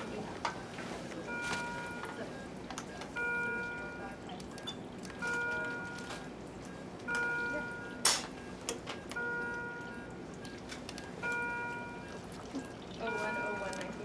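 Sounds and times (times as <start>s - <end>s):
medical alarm chime: 0.0s - 14.0s.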